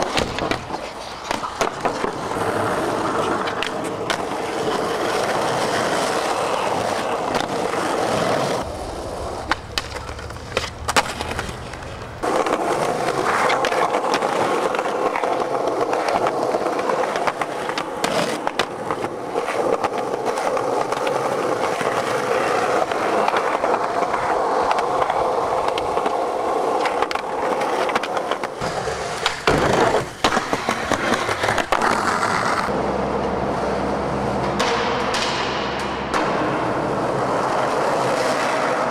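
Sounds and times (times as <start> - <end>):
skateboard popping and landing: 0.0 - 38.9
skateboard wheels on asphalt: 0.0 - 38.9.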